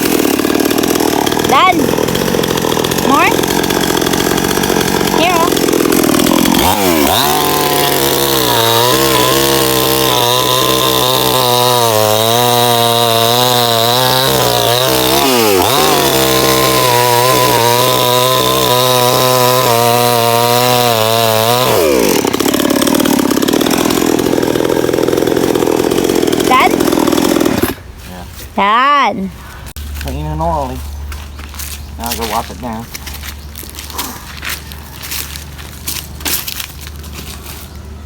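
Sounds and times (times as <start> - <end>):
chainsaw cutting wood: 0.0 - 28.0, 31.2 - 37.9.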